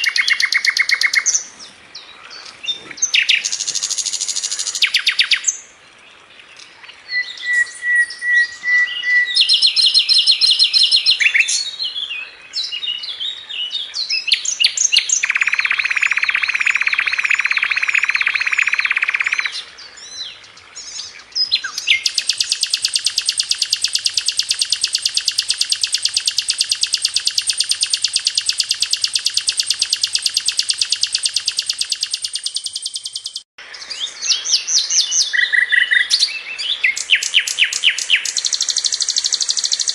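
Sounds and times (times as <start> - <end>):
flycatcher singing chirps and trills: 0.0 - 1.5, 2.4 - 5.6, 7.1 - 19.6, 20.2 - 39.9.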